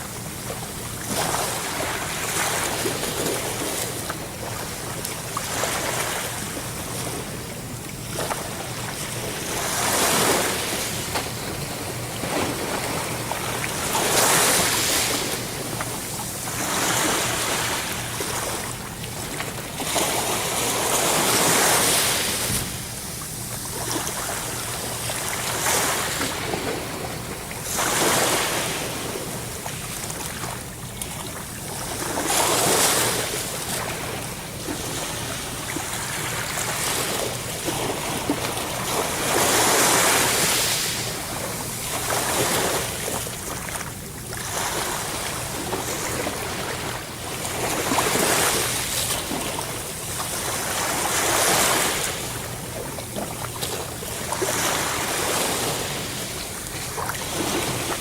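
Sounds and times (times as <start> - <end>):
sea waves breaking ashore: 8.1 - 58.0.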